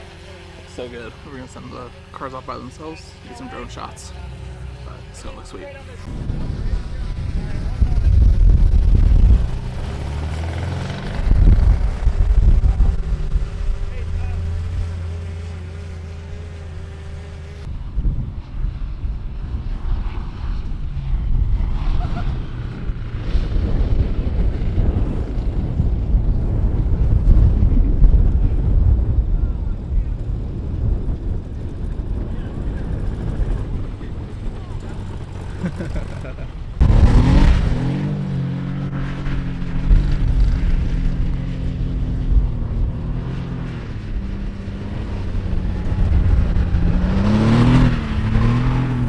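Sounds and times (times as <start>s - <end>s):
car engine running: 0.0s - 17.7s, 24.0s - 49.0s
wind buffeting microphone: 3.5s - 16.0s, 16.6s - 49.0s.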